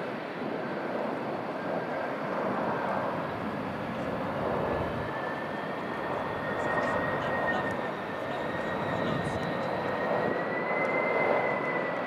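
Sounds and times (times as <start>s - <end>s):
jet roar: 0.0s - 12.0s.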